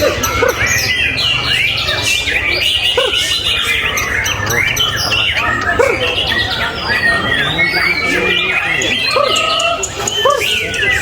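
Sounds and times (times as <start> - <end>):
songbirds chorus: 0.0 - 11.0.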